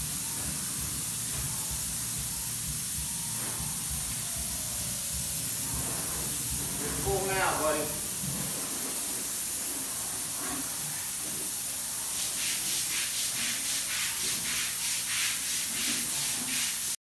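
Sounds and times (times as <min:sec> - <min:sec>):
paint spray gun hissing: 0:00.0 - 0:17.0.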